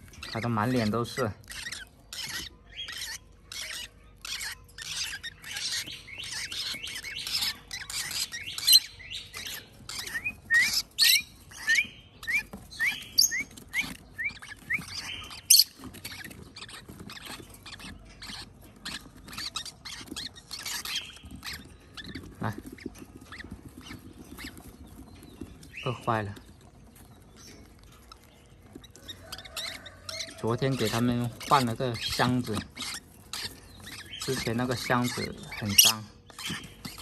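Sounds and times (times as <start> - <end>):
parrot chicks begging calls: 0.0 - 37.0.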